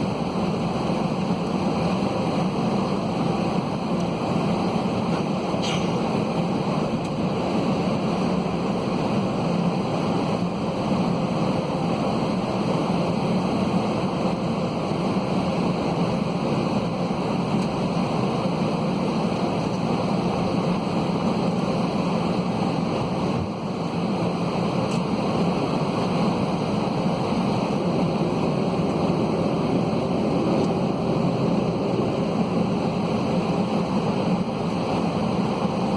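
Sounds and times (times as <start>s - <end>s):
airliner cabin roar: 0.0s - 35.9s.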